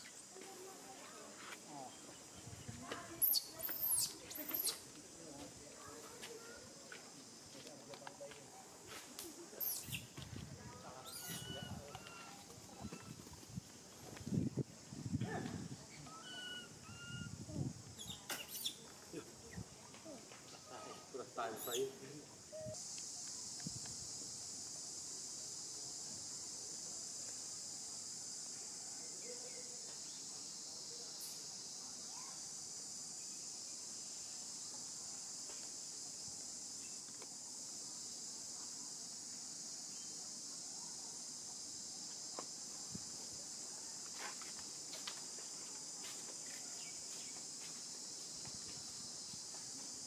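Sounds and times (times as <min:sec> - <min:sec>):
insect chorus drone: 0:00.0 - 0:50.0.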